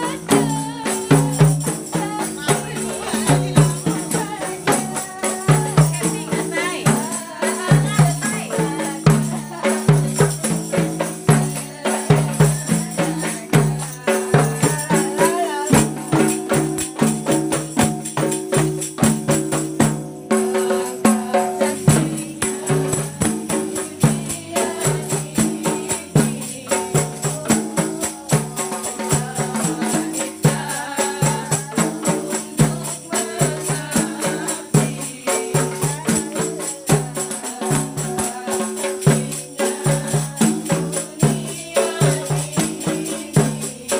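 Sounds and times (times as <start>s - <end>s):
frame drums and tambourines: 0.0s - 43.9s.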